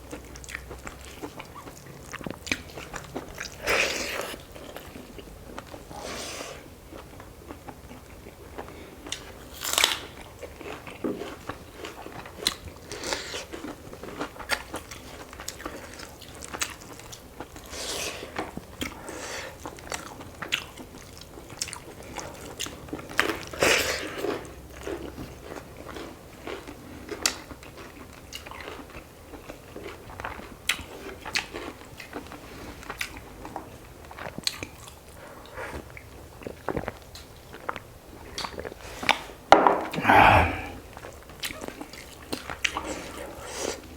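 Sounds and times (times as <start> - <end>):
chewing and crunching food: 0.0 - 39.4, 40.3 - 43.9.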